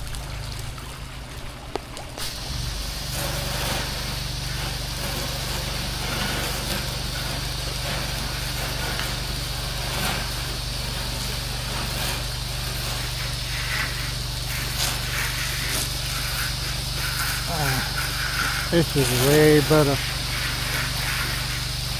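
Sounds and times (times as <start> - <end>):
water spraying hiss: 0.0 - 21.9
small gas engine running: 2.1 - 21.9.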